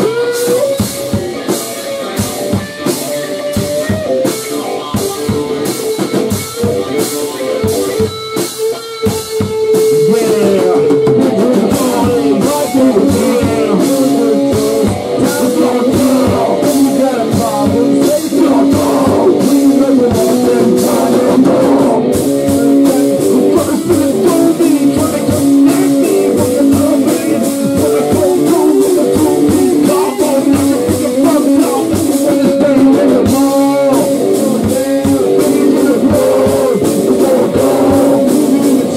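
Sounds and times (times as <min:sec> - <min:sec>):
drum kit with cymbal beat: 0:00.0 - 0:38.9
electric guitar: 0:00.0 - 0:38.9.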